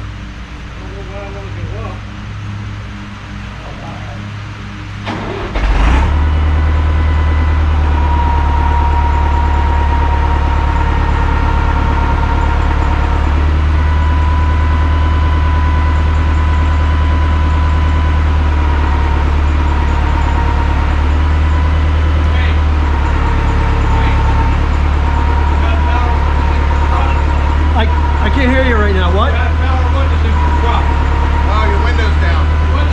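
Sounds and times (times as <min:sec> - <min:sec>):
faint steady whine: 0:00.0 - 0:32.9
large engine droning: 0:00.0 - 0:32.9.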